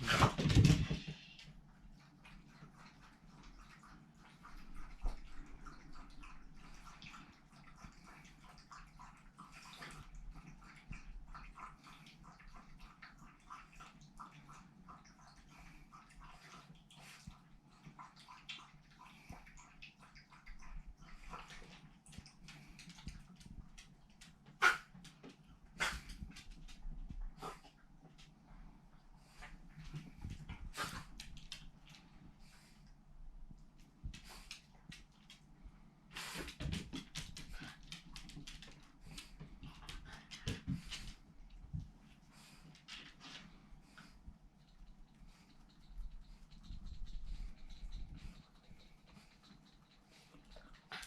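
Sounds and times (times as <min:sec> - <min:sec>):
small irregular clicks and ticks: 0:01.0 - 0:51.0.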